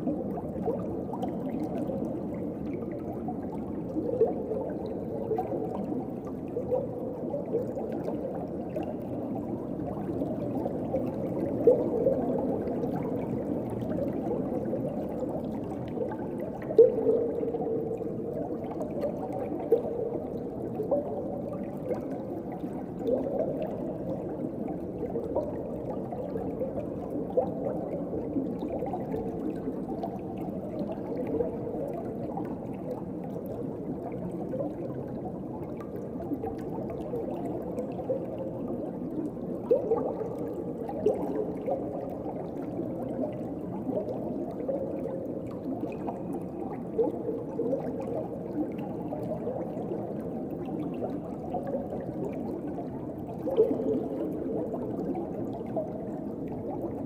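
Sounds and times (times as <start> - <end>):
bubble pops and gurgles: 0.0 - 57.0.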